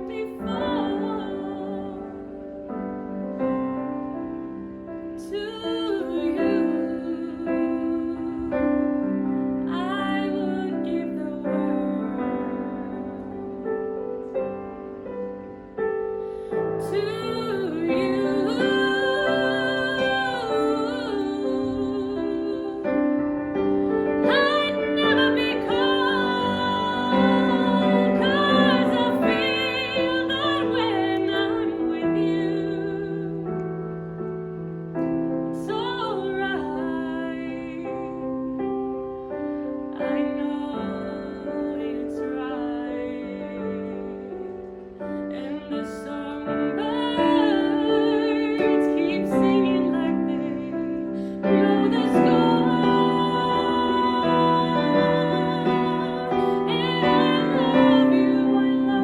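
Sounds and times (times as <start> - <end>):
piano accompaniment: 0.0 - 59.0
woman singing a ballad: 0.0 - 59.0.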